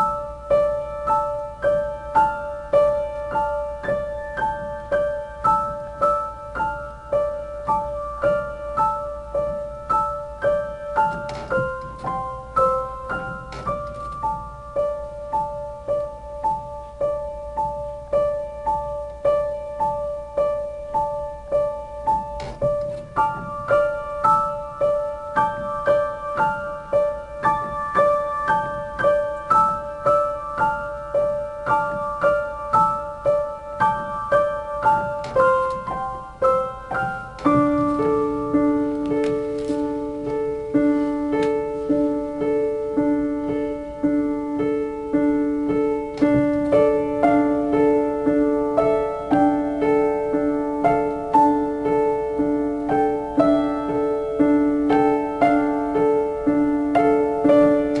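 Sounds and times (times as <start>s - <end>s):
upright piano solo: 0.0s - 58.0s.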